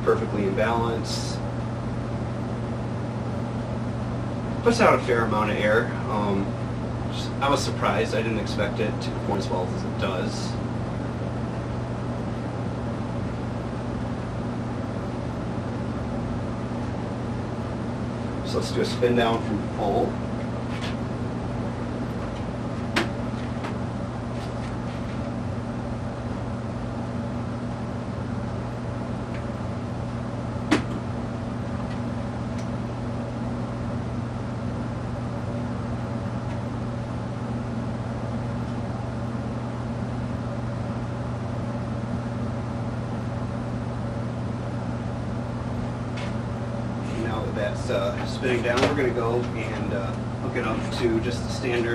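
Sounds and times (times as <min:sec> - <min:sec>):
ceiling fan coasting down: 0:00.0 - 0:51.9.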